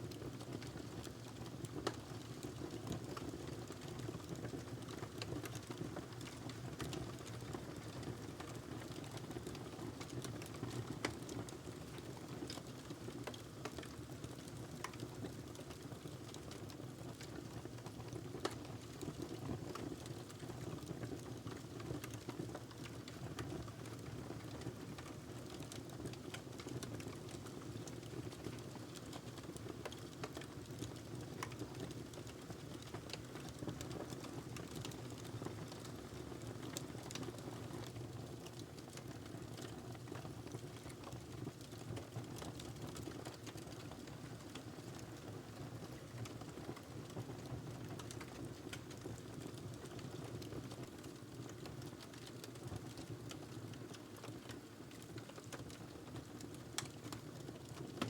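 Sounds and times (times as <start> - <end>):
wood fire crackling: 0.3 - 58.0.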